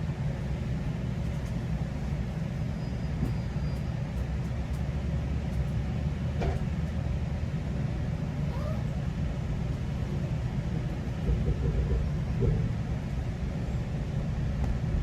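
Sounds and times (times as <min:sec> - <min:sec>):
train rumbling inside coach: 0:00.0 - 0:15.0.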